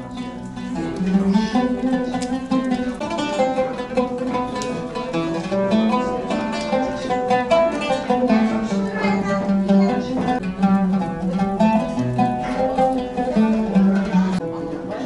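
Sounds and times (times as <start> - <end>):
oud melody: 0.0 - 15.0.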